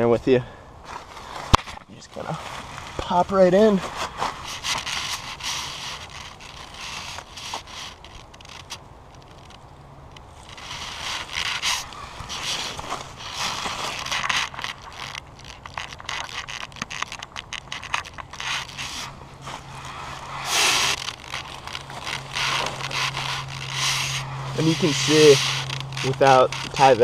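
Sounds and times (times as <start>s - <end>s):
groundsheet and netting rustling: 0.8s - 9.6s, 10.2s - 27.0s.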